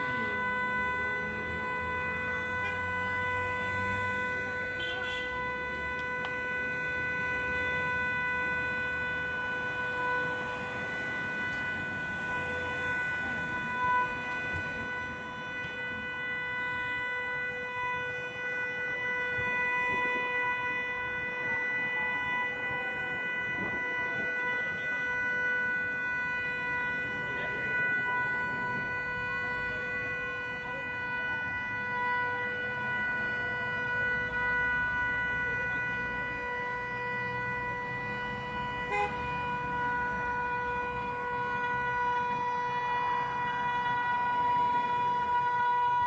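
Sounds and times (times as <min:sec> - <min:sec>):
steady horn-like siren tone: 0:00.0 - 0:46.0
wailing sirens: 0:00.0 - 0:46.0.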